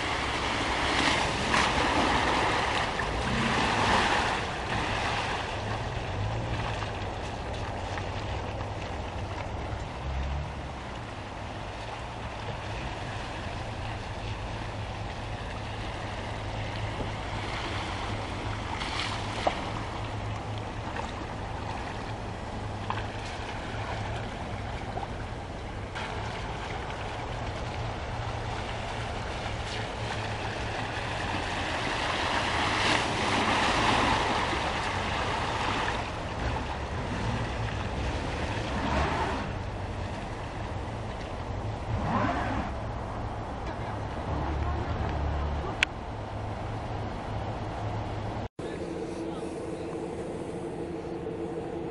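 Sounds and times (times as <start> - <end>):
low engine rumble: 0.0 - 51.9
tyres splashing through water: 0.0 - 51.9.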